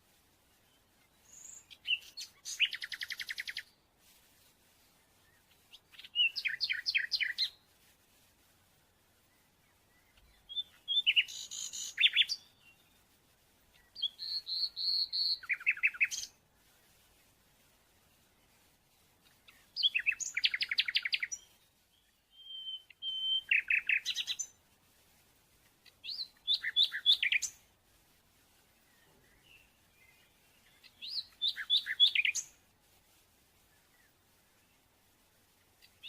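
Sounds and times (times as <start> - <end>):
songbird chirps and trills: 0.0 - 36.0.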